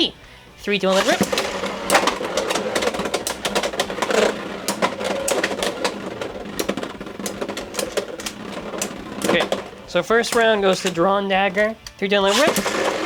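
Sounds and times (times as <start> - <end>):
spinning tops clacking and scraping: 0.8 - 13.0.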